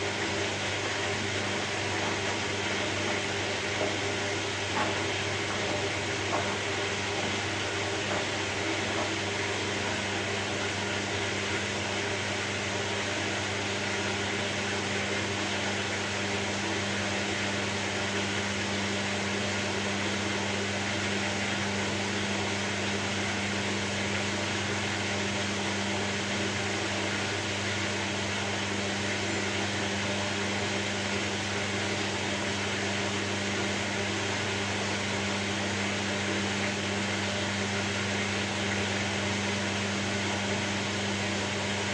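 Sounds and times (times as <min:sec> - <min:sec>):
low motor hum: 0:00.0 - 0:41.9.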